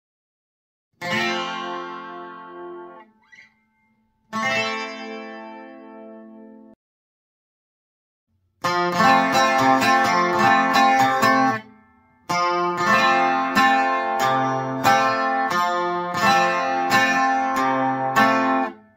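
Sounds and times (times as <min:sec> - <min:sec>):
acoustic guitar strumming: 0:01.0 - 0:06.6, 0:08.6 - 0:18.9.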